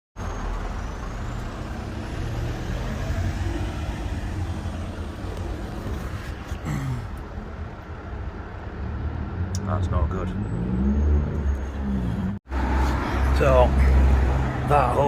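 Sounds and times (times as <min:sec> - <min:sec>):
motor vehicle rumble: 0:00.2 - 0:15.0
road traffic noise: 0:00.2 - 0:15.0.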